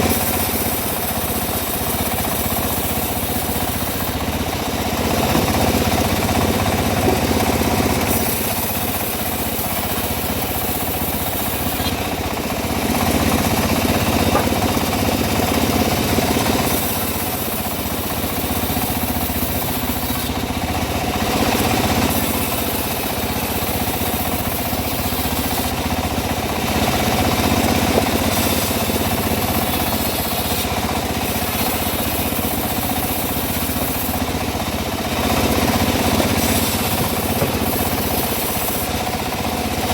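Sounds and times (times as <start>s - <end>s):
engine-driven bandsaw sawing wood: 0.0s - 39.9s.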